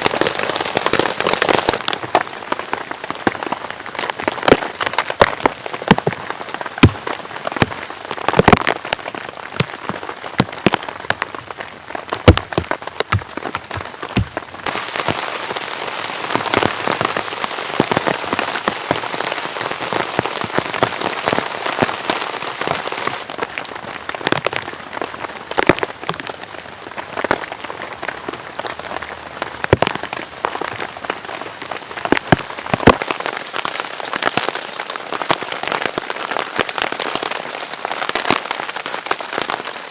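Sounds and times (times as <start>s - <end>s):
heavy rain falling: 0.0s - 39.9s
large raindrops striking a surface: 0.0s - 39.9s.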